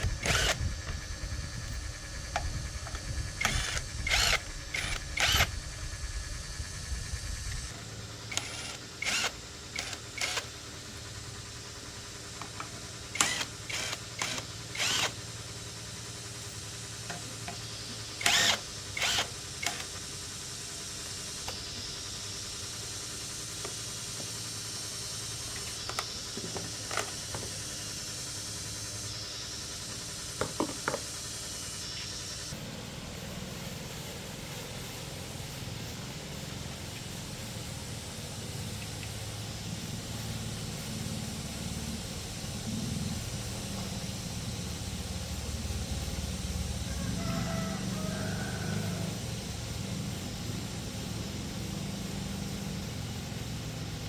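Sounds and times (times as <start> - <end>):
steady low hum: 0.0 - 54.0
hiss: 8.3 - 54.0.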